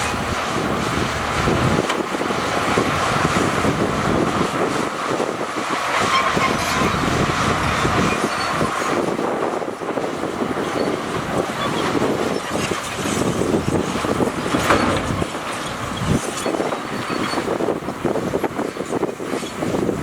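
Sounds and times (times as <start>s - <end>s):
diesel engine under load: 0.0s - 20.0s
steel tracks clanking: 0.0s - 20.0s.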